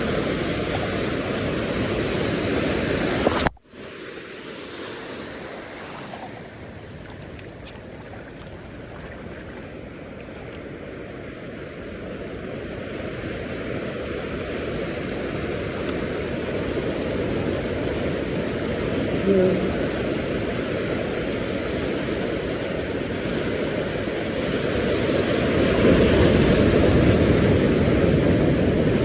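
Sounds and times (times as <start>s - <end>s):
surf washing on beach: 0.0s - 29.0s.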